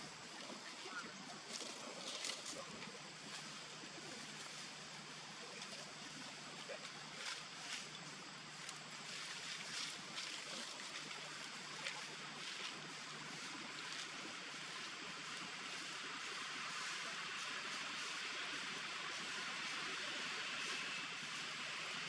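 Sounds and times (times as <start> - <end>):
outdoor background hiss: 0.0 - 22.0
ticks and rustles in leaves: 0.0 - 22.0.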